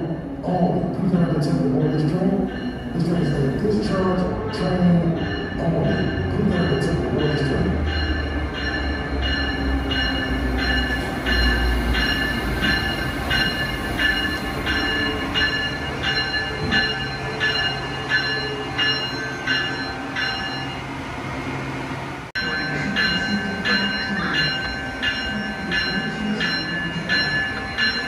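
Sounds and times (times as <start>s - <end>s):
low train rumble: 0.0s - 28.0s
locomotive bell ringing: 0.4s - 21.0s, 22.4s - 28.0s.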